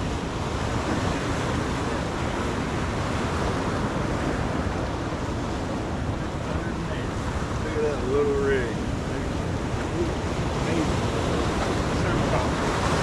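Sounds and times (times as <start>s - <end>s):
waves washing: 0.0s - 13.0s
wind on microphone: 0.0s - 13.0s.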